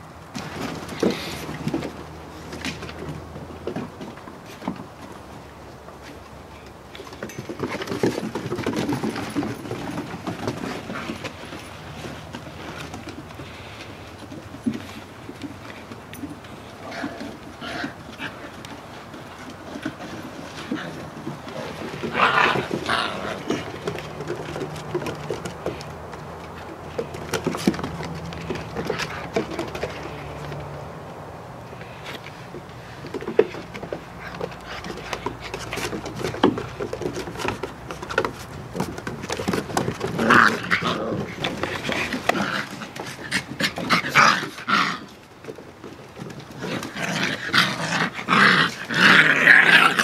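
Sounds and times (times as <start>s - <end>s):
puppy paws pattering on wooden deck: 0.3s - 50.0s.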